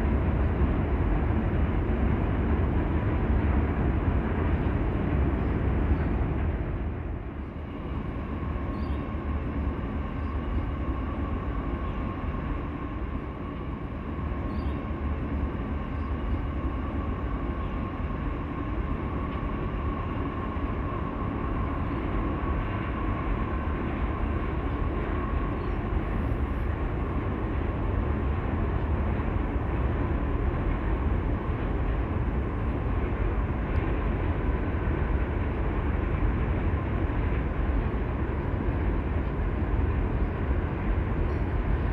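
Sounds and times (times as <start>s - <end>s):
faint steady whine: 0.0s - 41.9s
freight train rumbling: 0.0s - 41.9s.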